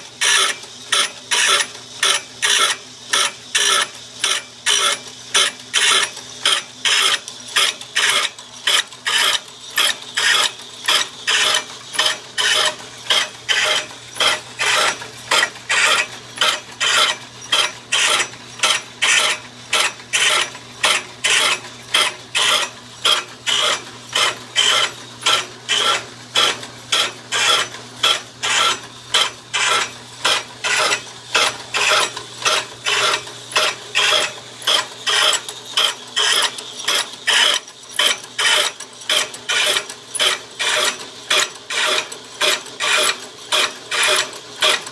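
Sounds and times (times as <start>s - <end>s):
grinding wheel rasping: 0.0s - 44.9s
steady motor hum: 0.0s - 44.9s.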